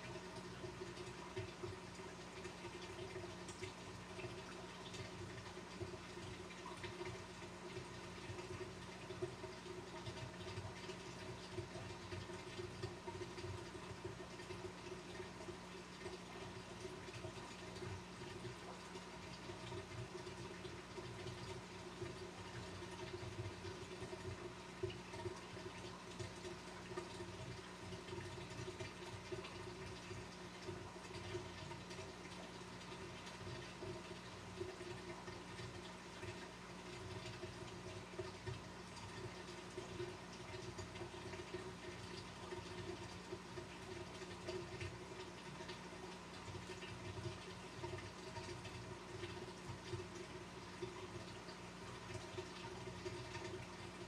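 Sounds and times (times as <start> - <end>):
aquarium pump humming: 0.0 - 54.0
water trickling and bubbling: 0.0 - 54.0.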